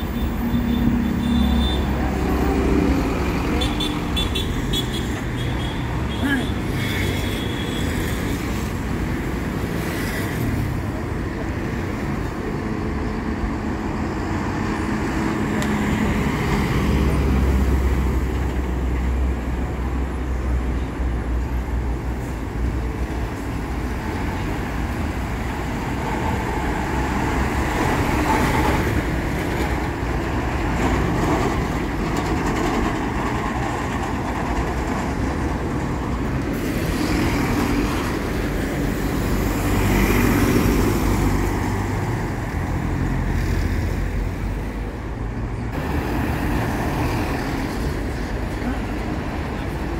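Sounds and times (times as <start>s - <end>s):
bus diesel engines passing: 0.0s - 49.9s
city street traffic: 0.0s - 49.9s.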